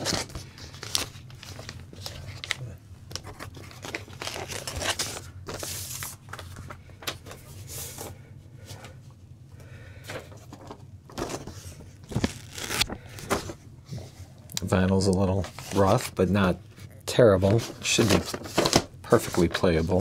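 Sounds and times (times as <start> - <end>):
record sleeve rustling: 0.0 - 8.1, 10.4 - 14.0, 15.3 - 20.0.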